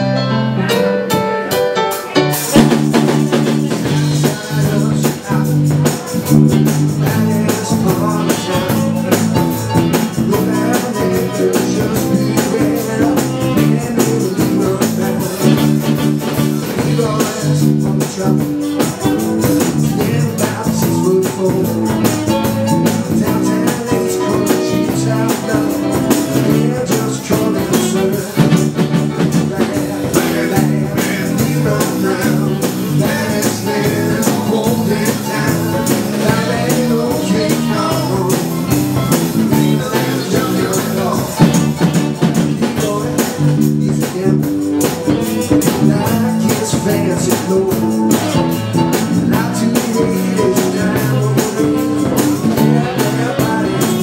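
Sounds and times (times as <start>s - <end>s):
electric guitar: 0.0s - 54.0s
live rock band: 0.0s - 54.0s.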